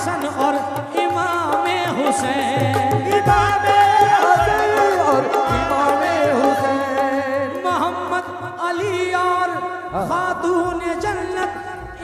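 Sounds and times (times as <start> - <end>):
harmonium: 0.0 - 12.0
man singing: 0.0 - 12.0.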